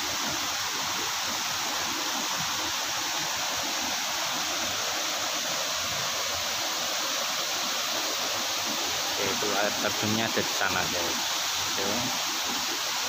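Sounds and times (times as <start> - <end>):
water rushing and falling: 0.0 - 13.0.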